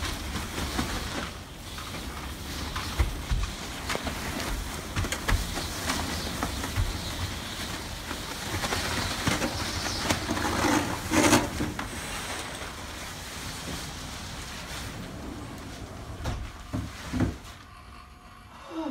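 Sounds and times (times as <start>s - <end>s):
nylon fabric rustling: 0.0s - 17.7s.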